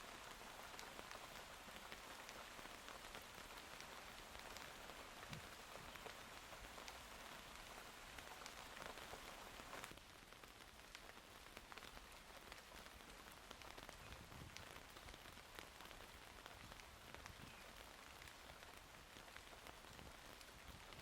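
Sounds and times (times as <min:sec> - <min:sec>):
faint rainfall: 0:00.0 - 0:21.0
raindrops ticking: 0:00.1 - 0:21.0.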